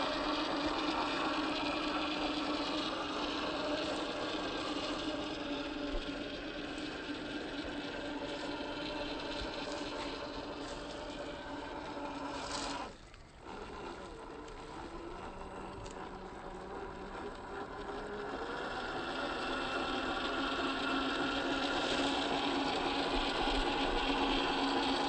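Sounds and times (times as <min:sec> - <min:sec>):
toy car electric motor whining: 0:00.0 - 0:25.0.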